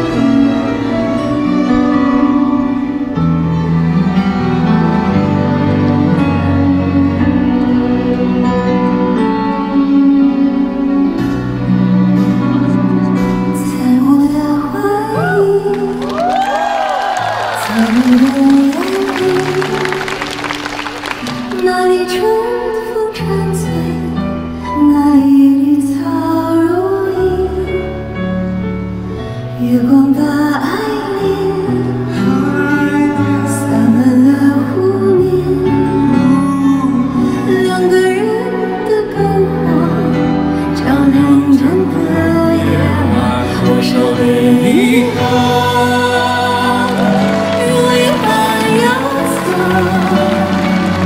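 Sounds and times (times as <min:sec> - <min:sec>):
band playing slow sad music: 0:00.0 - 0:51.0.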